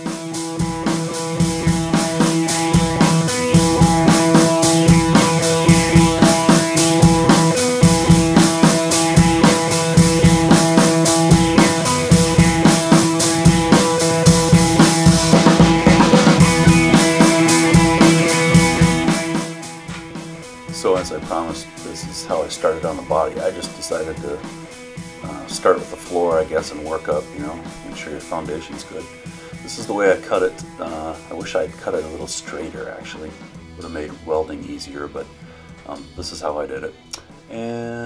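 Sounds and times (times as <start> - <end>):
held chords: 0.0 - 31.6
steady drum beat: 0.0 - 34.9.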